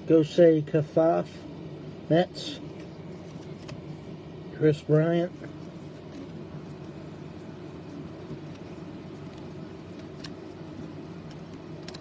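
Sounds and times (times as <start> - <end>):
low background hum and hiss: 0.0 - 12.0.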